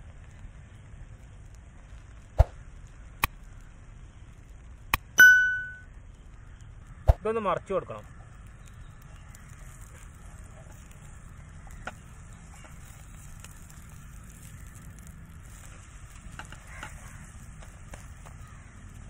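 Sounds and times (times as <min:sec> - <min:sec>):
omelette sizzling in oil: 0:00.0 - 0:19.0.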